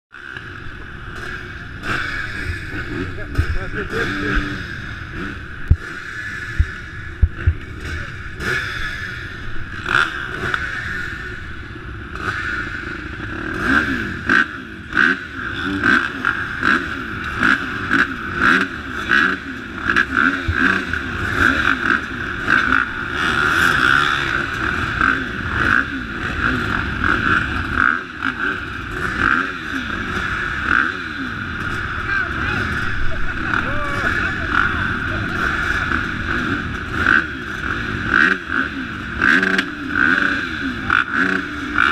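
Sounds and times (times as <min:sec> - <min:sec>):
motorcycle engines revving: 0:00.1 - 0:41.9.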